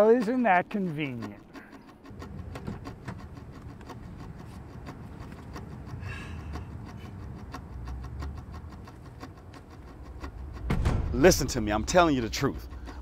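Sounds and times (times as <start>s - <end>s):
low steady rumble: 0.8s - 13.0s.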